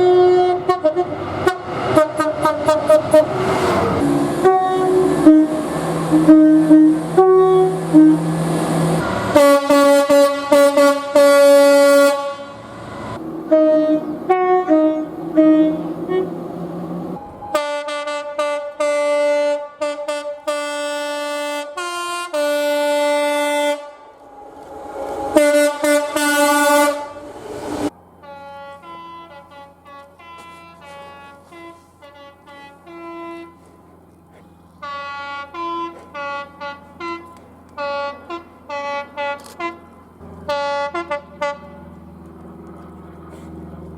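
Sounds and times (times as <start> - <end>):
multi-tone train horn blasts: 0.0 - 16.4, 17.2 - 34.0, 34.8 - 42.0.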